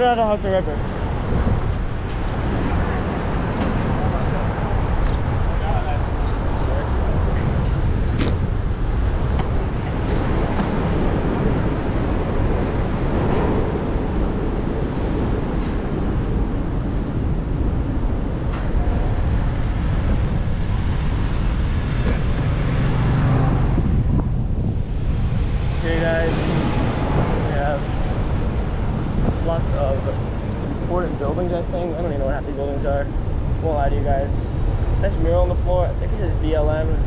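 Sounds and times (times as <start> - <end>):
city traffic road noise: 0.0 - 37.0.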